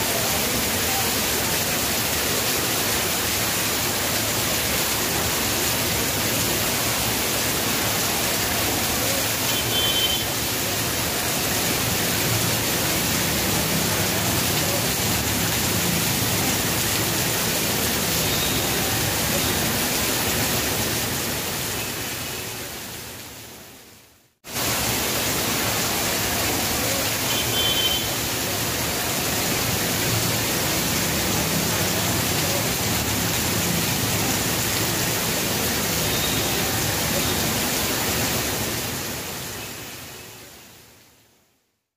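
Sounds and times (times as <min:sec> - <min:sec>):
heavy rain pouring on street: 0:00.0 - 0:41.6.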